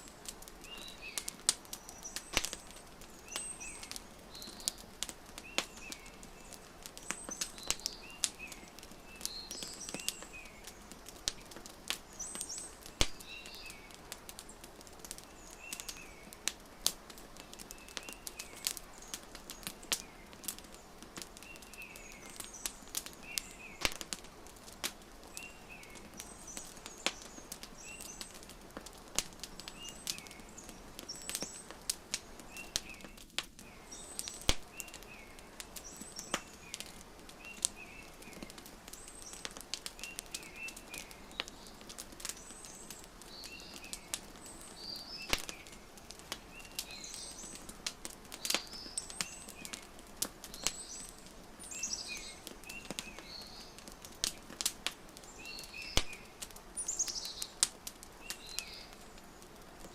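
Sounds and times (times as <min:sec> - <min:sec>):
small birds chirping: 0:00.0 - 0:59.9
wood fire crackling: 0:00.0 - 0:59.9.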